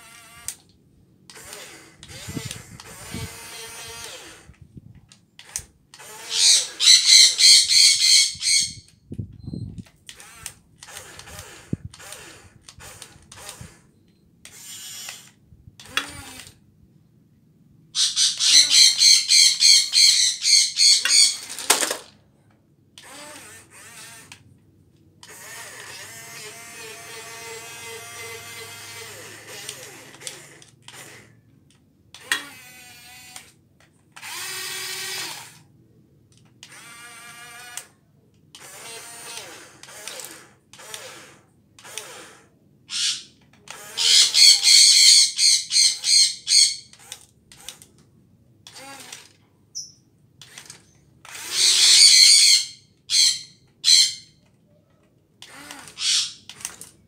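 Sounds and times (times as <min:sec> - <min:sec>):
toy excavator motors whirring: 0:00.0 - 0:16.7, 0:17.9 - 0:57.0.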